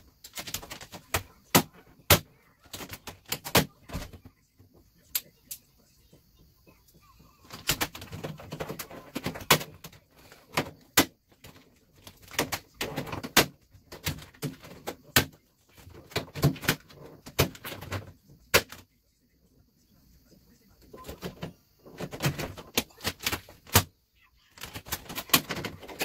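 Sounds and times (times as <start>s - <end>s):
vinyl film crackling and rustling: 0.0s - 4.3s, 7.4s - 18.9s, 20.9s - 26.0s.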